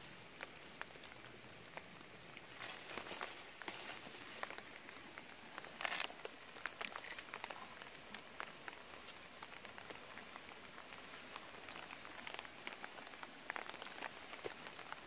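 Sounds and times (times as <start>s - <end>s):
light rain falling: 0.0s - 15.0s
rustle: 0.0s - 15.0s.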